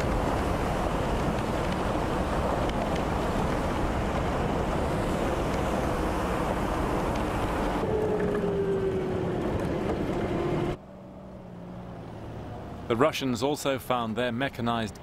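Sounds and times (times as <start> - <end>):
engine and road noise rumble: 0.0 - 15.0.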